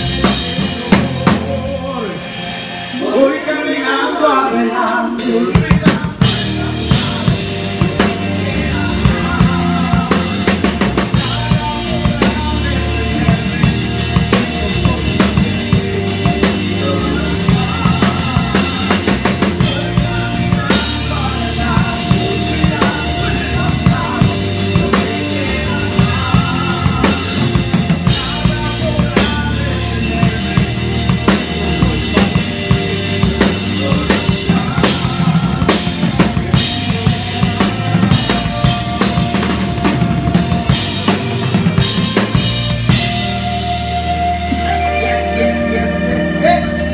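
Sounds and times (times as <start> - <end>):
drum kit steady beat: 0.0 - 46.9
live band playing: 0.0 - 46.9
man singing: 0.0 - 46.9.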